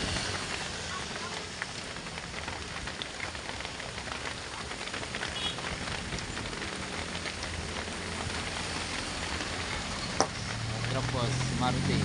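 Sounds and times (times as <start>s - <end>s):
heavy rain on truck: 0.0s - 12.0s.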